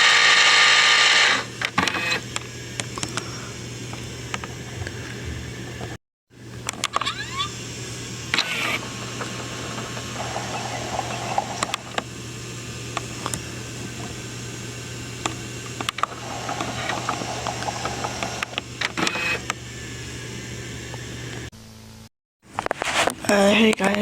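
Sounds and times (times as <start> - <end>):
camcorder motor hum and whir: 0.0 - 21.5.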